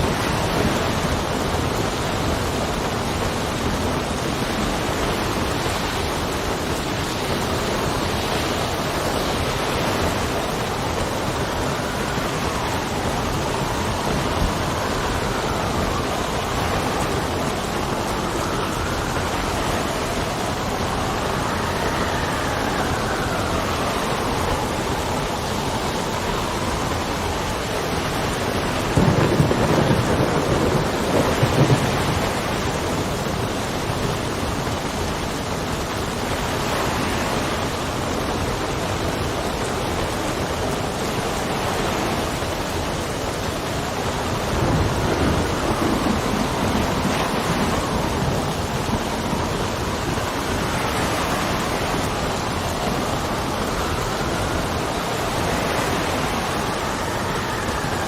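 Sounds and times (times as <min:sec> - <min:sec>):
heavy rain: 0:00.0 - 0:58.0
thunder rumbling: 0:00.0 - 0:58.0
wind: 0:00.0 - 0:58.0.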